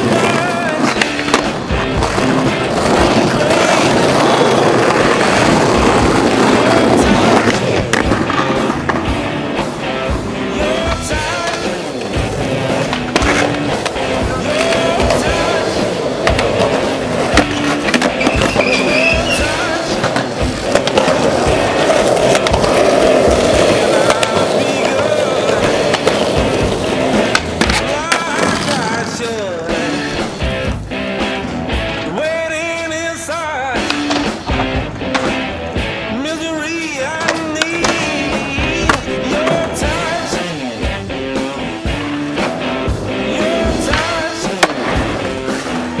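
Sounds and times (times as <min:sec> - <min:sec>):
music: 0:00.0 - 0:46.0
skateboard clacking: 0:00.0 - 0:46.0
skateboard wheels rolling on concrete: 0:00.0 - 0:46.0.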